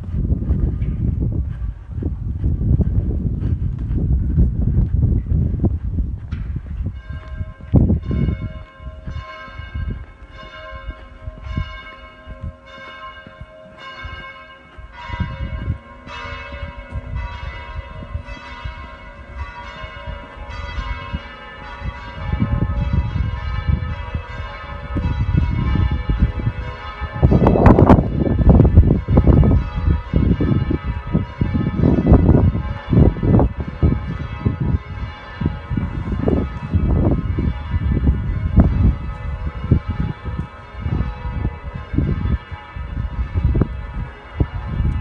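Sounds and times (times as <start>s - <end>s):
wind rumbling on microphone: 0.0s - 45.0s
church bells ringing: 0.7s - 1.3s, 6.9s - 45.0s.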